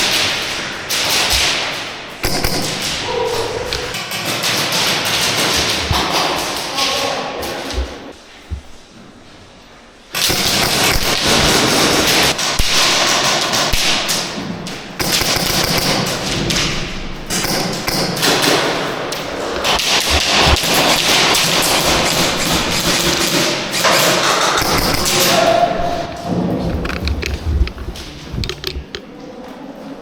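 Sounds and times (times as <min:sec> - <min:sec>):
airsoft guns firing bursts: 0:00.0 - 0:06.9, 0:10.2 - 0:29.0.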